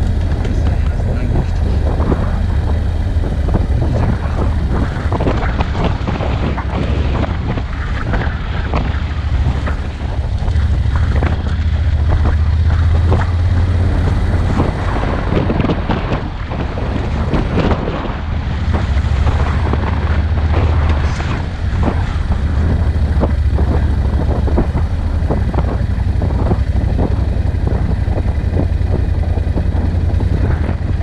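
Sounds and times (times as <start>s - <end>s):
vehicle rumbling on dirt track: 0.0s - 31.0s
wind buffeting microphone: 0.0s - 31.0s.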